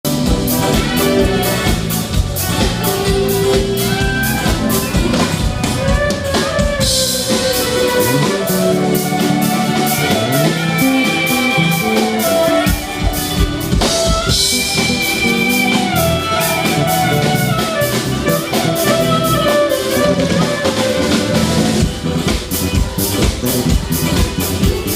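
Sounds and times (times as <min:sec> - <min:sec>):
drum kit beat: 0:00.0 - 0:24.9
guitar: 0:00.0 - 0:24.9.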